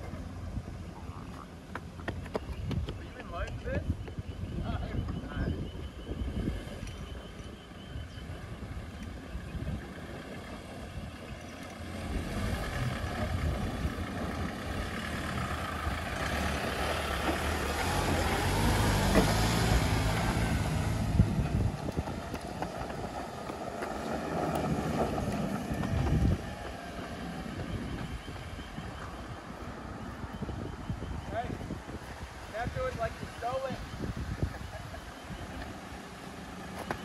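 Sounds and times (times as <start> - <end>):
vehicle engine passing: 6.1 - 37.0.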